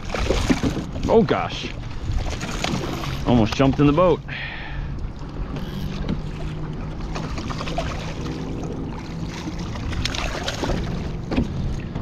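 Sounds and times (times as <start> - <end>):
water sloshing against kayak hull: 0.0 - 12.0.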